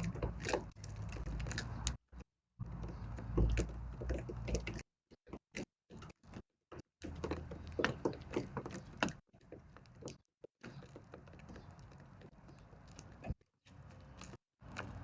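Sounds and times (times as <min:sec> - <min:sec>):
birds pecking on a feeder: 0:00.0 - 0:15.0.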